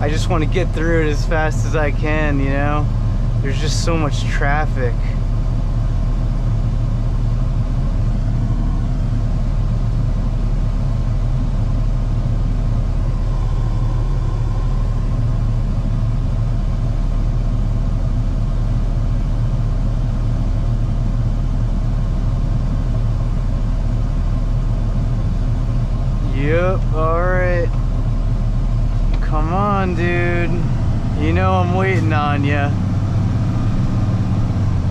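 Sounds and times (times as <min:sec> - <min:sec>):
road noise: 0:00.0 - 0:34.9
truck engine drone: 0:00.0 - 0:34.9.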